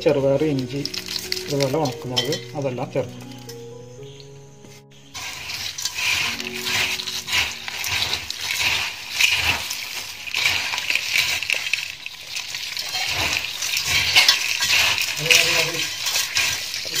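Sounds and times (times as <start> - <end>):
snack mix rustling in steel bowl: 0.1 - 2.6, 5.1 - 17.0.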